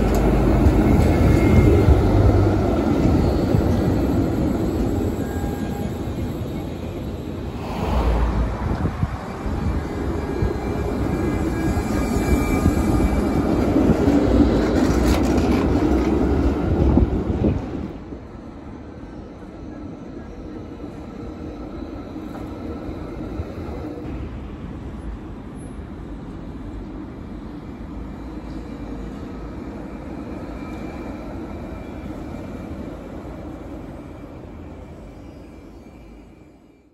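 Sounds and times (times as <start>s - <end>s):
distant tram rumble: 0.0s - 36.6s
tram wheels rumbling on rails: 0.0s - 36.7s.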